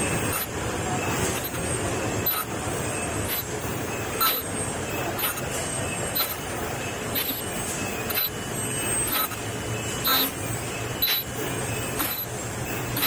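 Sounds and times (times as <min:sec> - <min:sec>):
sharp machine clack: 0:00.0 - 0:13.0
steady mechanical din: 0:00.0 - 0:13.0.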